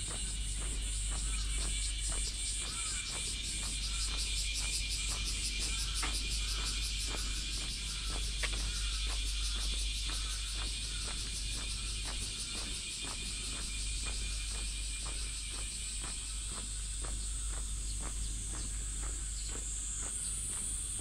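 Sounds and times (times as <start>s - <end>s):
footsteps on pavement: 0.0s - 21.0s
high-pitched insect chorus: 0.0s - 21.0s.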